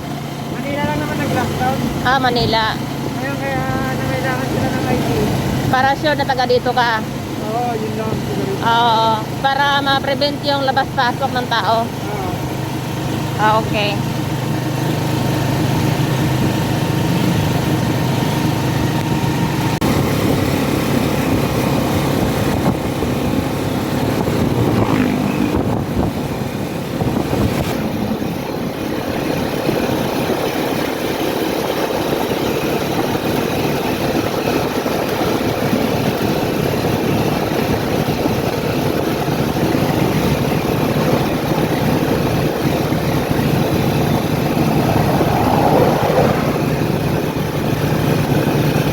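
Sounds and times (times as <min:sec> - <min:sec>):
vehicle engine and road noise: 0:00.0 - 0:48.9.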